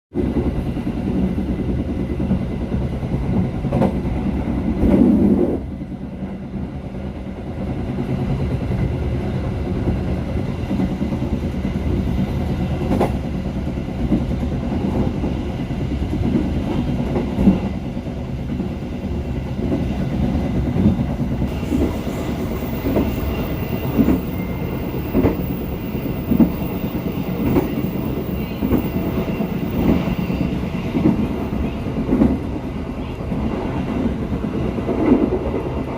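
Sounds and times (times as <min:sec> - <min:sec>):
train rumbling on rails: 0:00.1 - 0:35.9.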